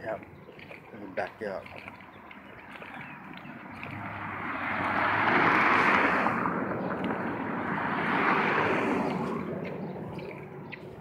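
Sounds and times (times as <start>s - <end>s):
vehicles passing on a road: 0.0s - 11.0s.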